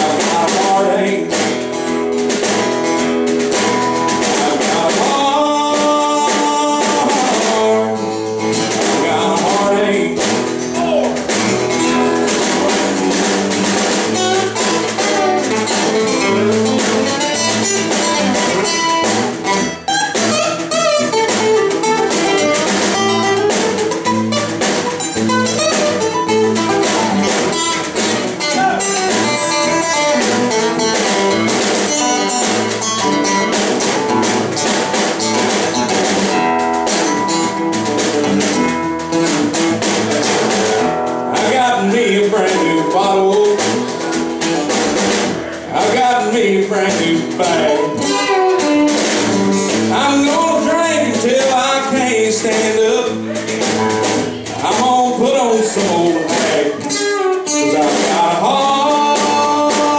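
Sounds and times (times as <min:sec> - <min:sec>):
acoustic guitars strumming chords: 0:00.0 - 0:59.9
picked guitar run: 0:00.0 - 0:59.9.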